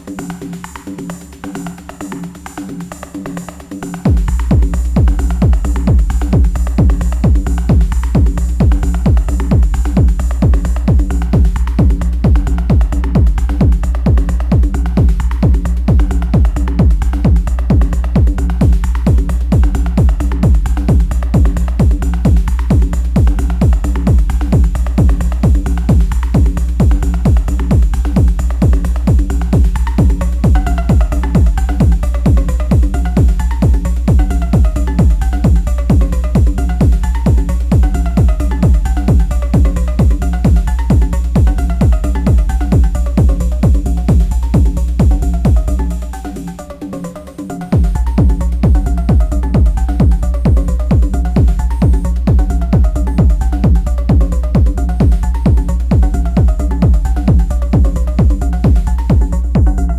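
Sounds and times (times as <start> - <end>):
heavy kick drum beat: 0.0 - 59.9.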